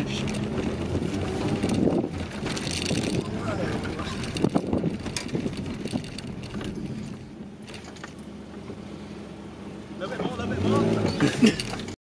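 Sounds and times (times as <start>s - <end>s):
light rattles and clicks: 0.0s - 8.8s, 10.2s - 12.0s
car engine idling: 0.0s - 12.0s.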